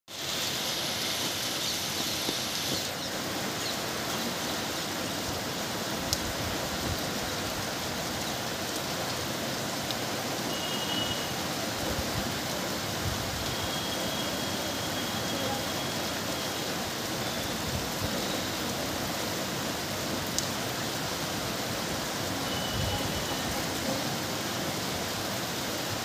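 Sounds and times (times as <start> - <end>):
heavy rain on roofs: 0.1 - 26.0.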